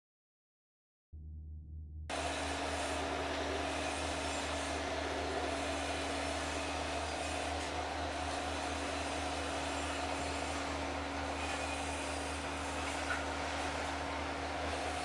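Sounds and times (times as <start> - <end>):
cooling fan running: 2.1 - 15.0.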